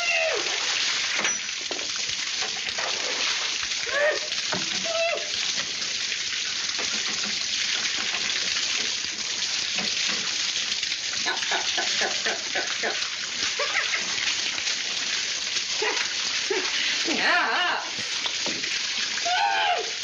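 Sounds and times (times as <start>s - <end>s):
water gushing from pipe: 0.0s - 20.0s.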